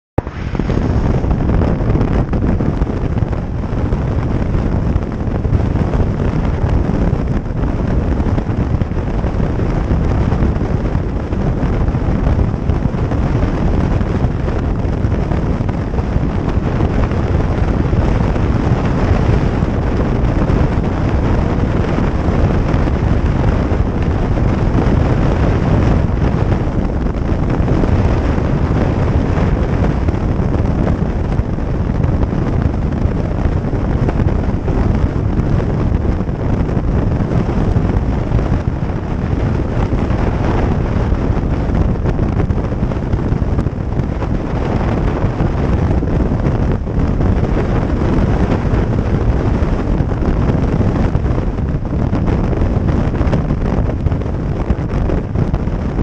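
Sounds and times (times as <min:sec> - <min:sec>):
wind rush on microphone: 0:00.0 - 0:56.0
road noise: 0:00.2 - 0:56.0.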